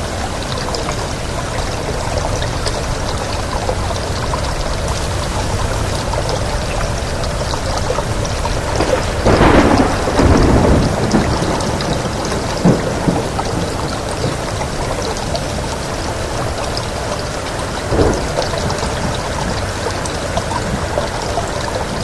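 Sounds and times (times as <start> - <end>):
heavy rainfall: 0.0 - 22.0.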